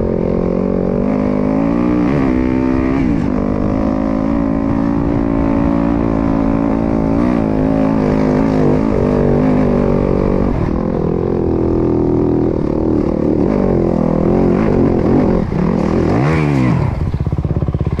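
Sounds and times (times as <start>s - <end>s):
dirt bike engine: 0.0s - 18.0s.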